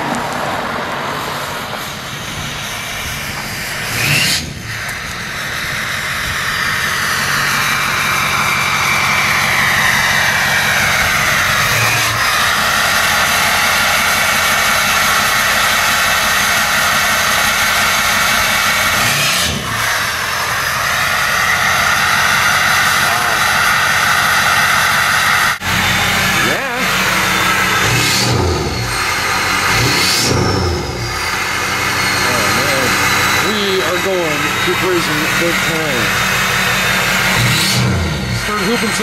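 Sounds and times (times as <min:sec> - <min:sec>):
diesel engine rumble: 0:00.0 - 0:39.0
turbo whine: 0:00.0 - 0:39.0.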